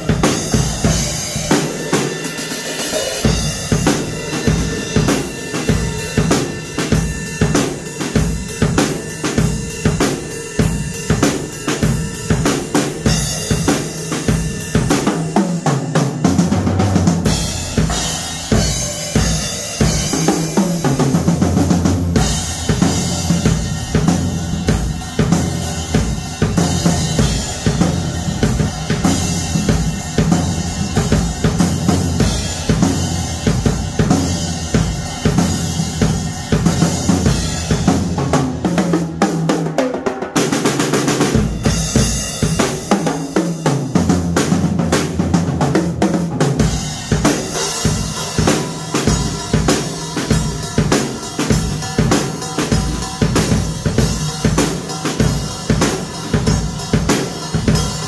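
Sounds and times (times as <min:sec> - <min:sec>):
drum kit beat: 0:00.0 - 0:58.0.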